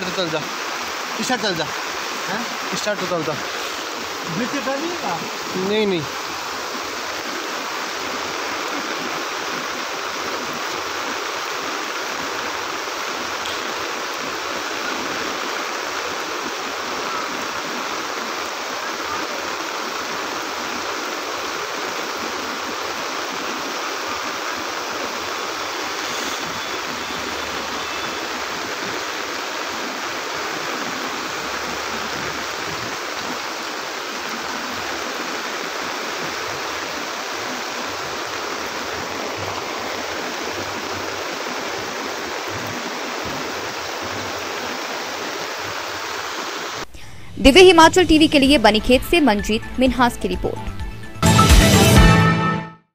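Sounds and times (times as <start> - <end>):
floodwater rushing: 0.0 - 49.3
heavy rain falling: 0.0 - 49.3.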